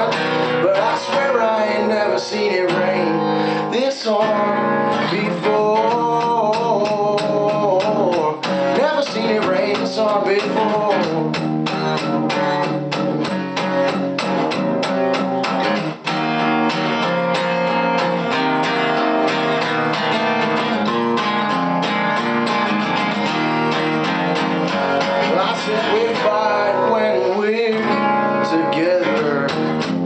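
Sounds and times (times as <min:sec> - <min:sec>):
guitar picked and strummed: 0:00.0 - 0:30.0.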